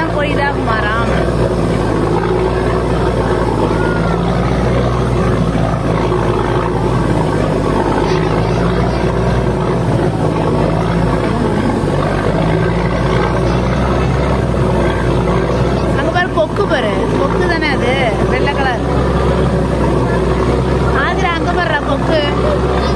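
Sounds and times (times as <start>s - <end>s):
boat engine drone: 0.0s - 22.9s
water and wind rushing: 0.0s - 22.9s.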